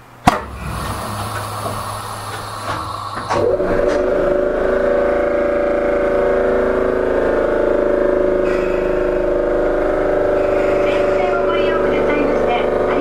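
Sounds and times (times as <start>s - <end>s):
train hum with held tones: 0.0s - 13.0s.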